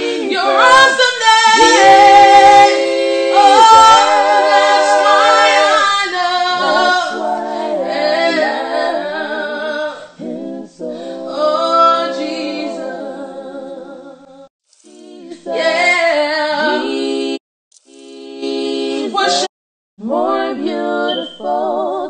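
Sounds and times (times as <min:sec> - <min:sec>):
woman singing a cappella: 0:00.0 - 0:10.1, 0:10.8 - 0:17.4, 0:18.2 - 0:22.0.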